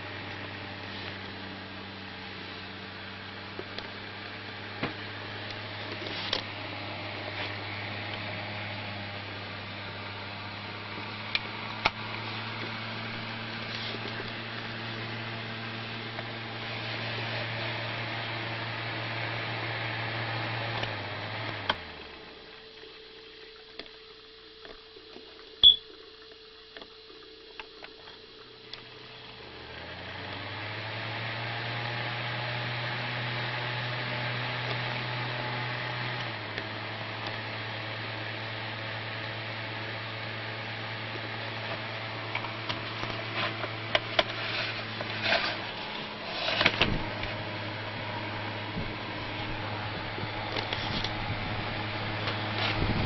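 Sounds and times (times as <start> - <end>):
electric fan motor hum: 0.0 - 53.0.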